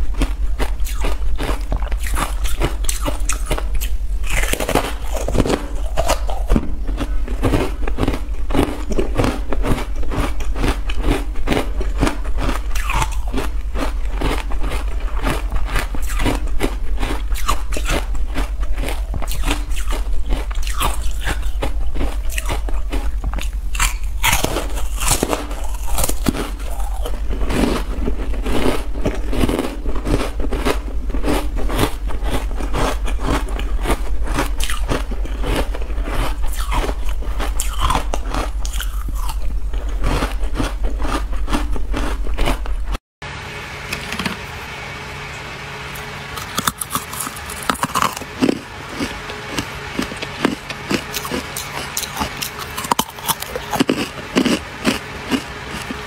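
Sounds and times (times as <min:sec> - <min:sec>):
ice crunching while chewed: 0:00.0 - 0:43.0, 0:46.4 - 0:56.0.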